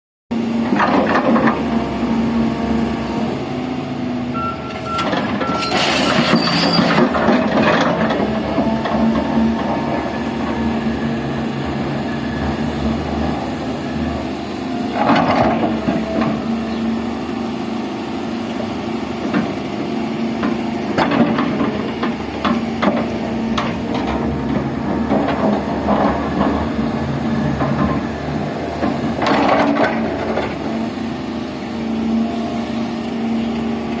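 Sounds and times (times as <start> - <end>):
excavator engine drone: 0.3 - 34.0.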